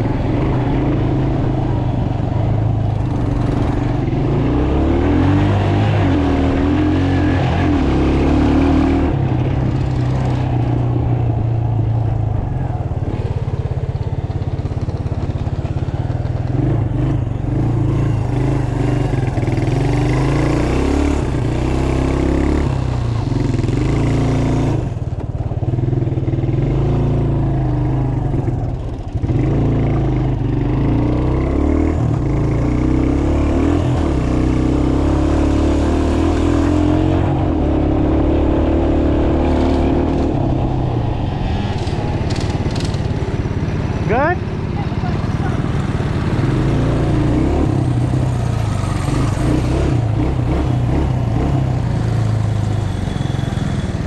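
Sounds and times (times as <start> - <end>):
mini bike engines revving: 0.0 - 54.0.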